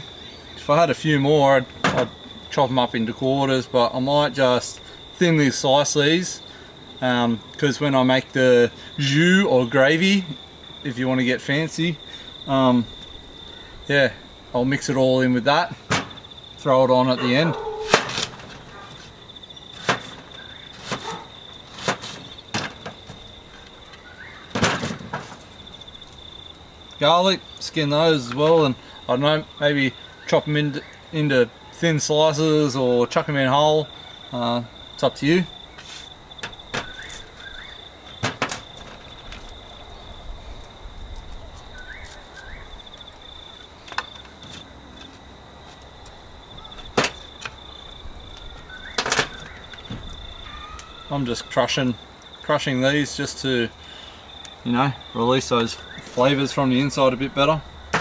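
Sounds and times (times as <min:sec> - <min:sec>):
high insect trill: 0:00.0 - 0:58.0.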